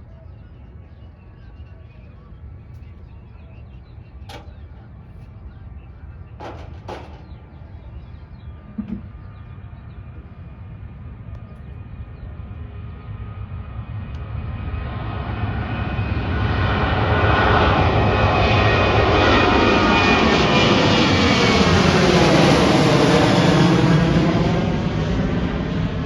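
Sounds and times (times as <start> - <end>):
jet engines rumbling: 0.5 - 26.0.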